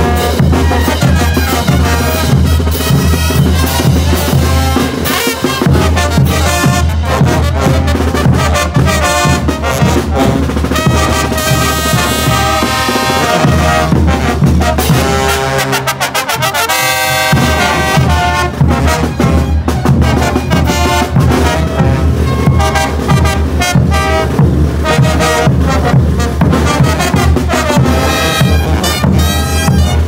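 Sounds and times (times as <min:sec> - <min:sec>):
bass drum: 0:00.0 - 0:15.4, 0:17.2 - 0:30.0
brass band playing: 0:00.0 - 0:30.0.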